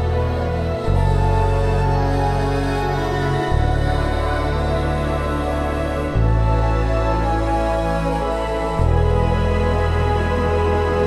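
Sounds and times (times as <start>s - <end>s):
music with sustained chords: 0.0s - 11.0s.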